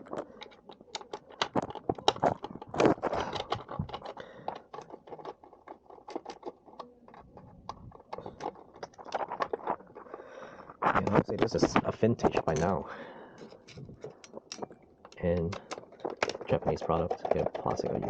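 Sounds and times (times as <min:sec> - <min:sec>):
screwdriver clicking and scraping: 0:00.0 - 0:11.2, 0:13.4 - 0:18.0.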